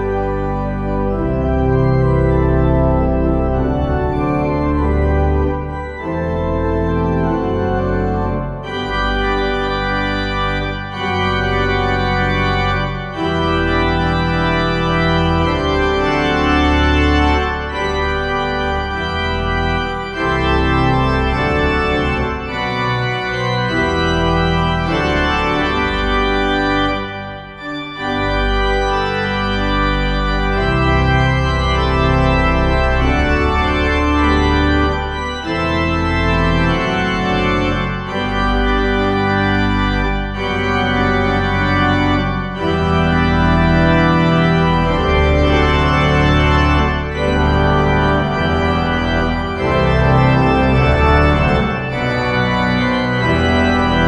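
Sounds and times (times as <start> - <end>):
organ playing a hymn: 0.0 - 54.0.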